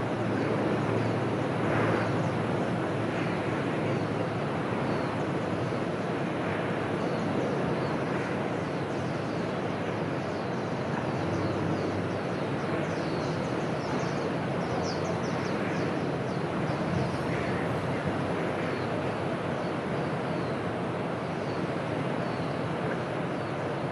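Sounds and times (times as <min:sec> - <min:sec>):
rushing background noise: 0:00.0 - 0:23.9.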